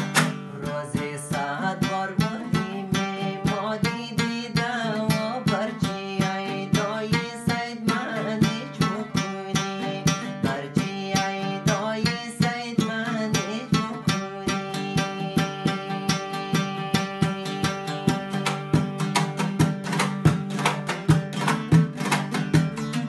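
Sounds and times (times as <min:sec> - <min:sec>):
man singing: 0:00.0 - 0:20.9
long-necked lute strummed fast: 0:00.0 - 0:23.0.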